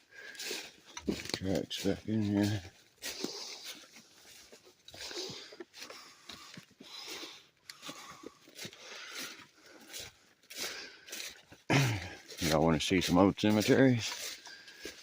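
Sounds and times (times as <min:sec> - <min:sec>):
footsteps crunching on forest floor: 0:00.0 - 0:15.0.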